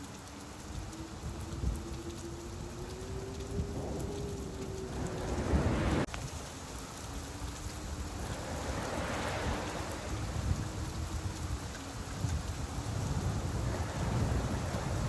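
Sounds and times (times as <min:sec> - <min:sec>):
rain falling: 0:00.0 - 0:15.0
sea surf: 0:00.0 - 0:15.0.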